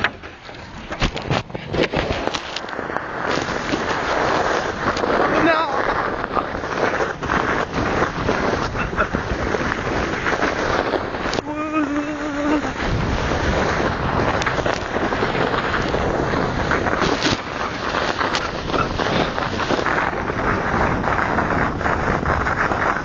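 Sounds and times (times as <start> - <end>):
sledge sliding over snow: 0.0 - 23.0
wind buffeting microphone: 0.0 - 23.0.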